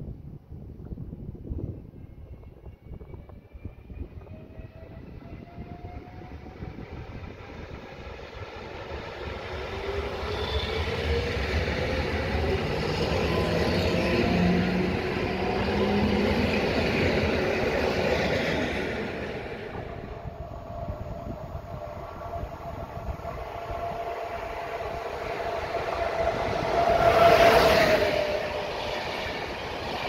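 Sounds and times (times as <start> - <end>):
train wheels rumbling on rails: 0.8 - 30.0.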